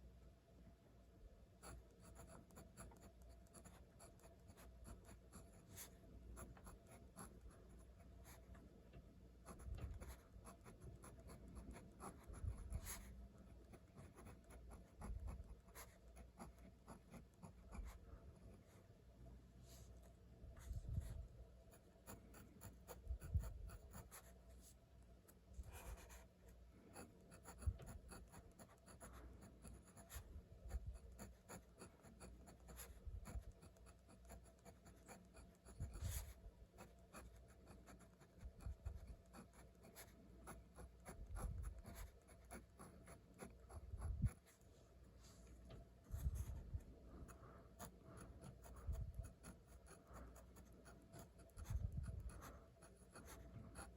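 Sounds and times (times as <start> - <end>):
pen scratching on paper: 1.6 - 8.4, 9.4 - 18.8, 20.6 - 44.6, 46.2 - 53.9.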